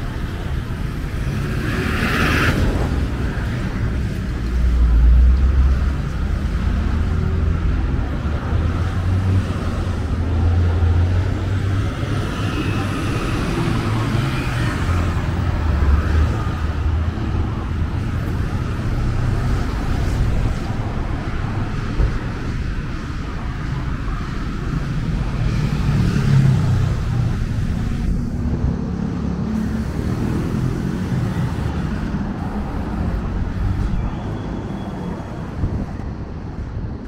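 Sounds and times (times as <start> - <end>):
cars and buses driving past: 0.0 - 37.0.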